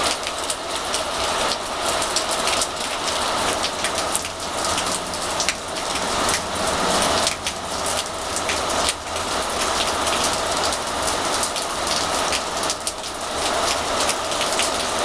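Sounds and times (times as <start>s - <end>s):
raindrops ticking on surfaces: 0.0s - 15.0s
steady rain falling: 0.0s - 15.0s.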